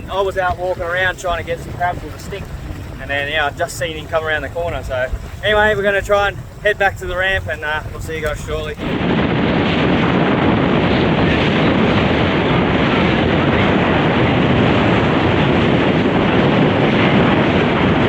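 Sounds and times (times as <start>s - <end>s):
boat moving over choppy water: 0.0s - 18.0s
wind on microphone: 0.0s - 18.0s.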